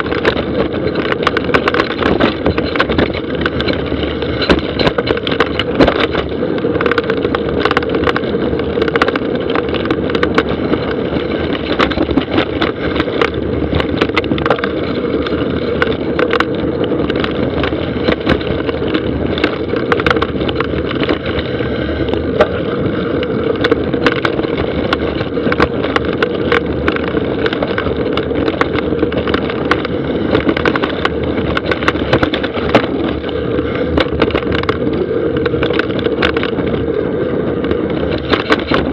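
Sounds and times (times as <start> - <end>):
sharp knocks and clatters: 0.0 - 36.9, 37.6 - 38.9
bike tyres rumbling over dirt: 0.0 - 38.9.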